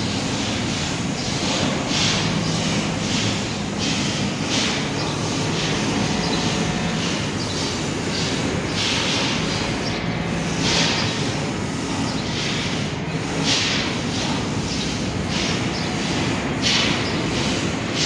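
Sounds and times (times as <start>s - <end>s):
machine drone: 0.0s - 18.0s
rhythmic hissing strokes: 0.0s - 18.0s.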